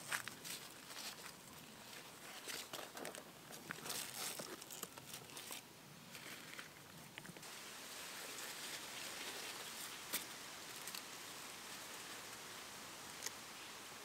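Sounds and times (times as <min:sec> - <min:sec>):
vines rustling: 0:00.0 - 0:13.8
faint outdoor hiss: 0:00.0 - 0:14.0.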